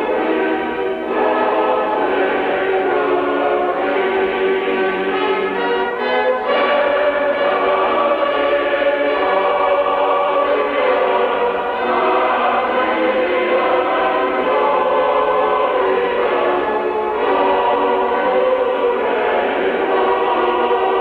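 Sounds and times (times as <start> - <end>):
choir singing sustained chords: 0.0 - 21.0.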